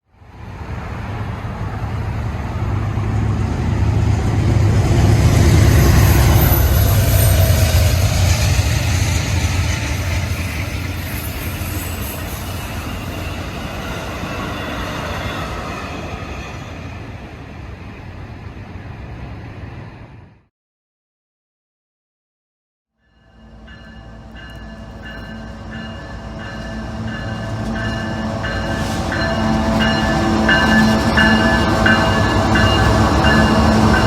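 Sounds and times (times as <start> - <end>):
train passing by: 0.1 - 20.5, 23.0 - 34.0.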